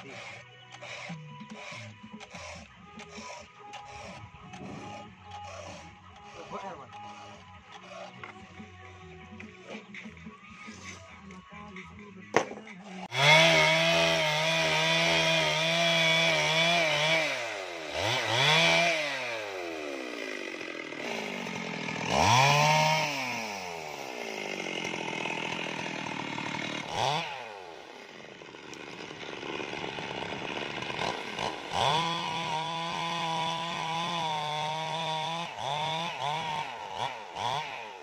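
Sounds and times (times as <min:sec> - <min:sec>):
chainsaw cutting logs: 0:00.0 - 0:38.0.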